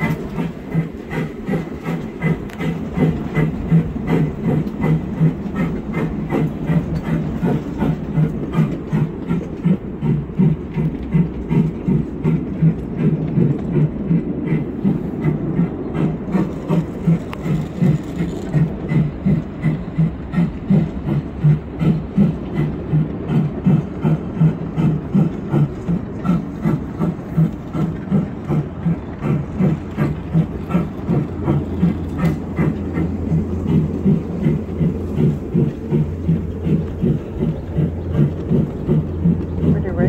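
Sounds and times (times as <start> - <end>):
miniature train running on track: 0.0 - 40.0.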